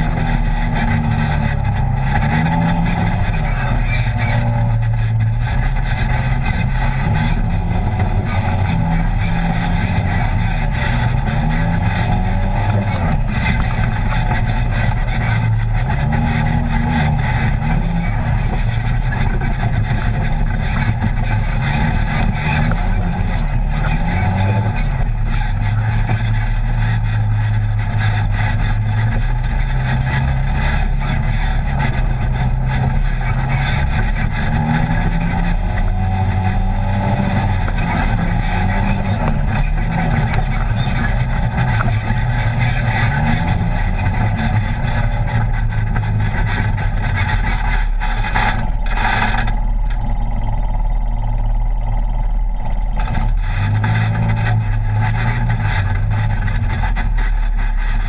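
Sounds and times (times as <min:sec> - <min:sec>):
off-road vehicle engine running: 0:00.0 - 0:58.0
rolling and rattling noise: 0:00.0 - 0:58.0.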